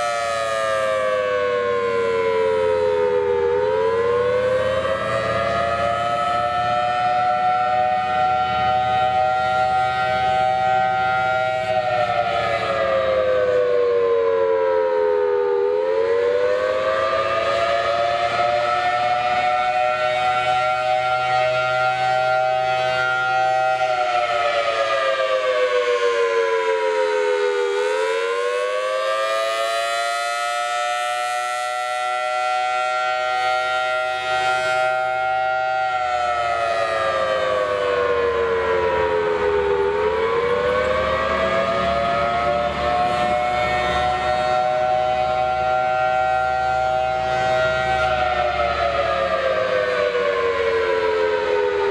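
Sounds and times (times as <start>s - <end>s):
two-tone warning siren: 0.0s - 51.9s.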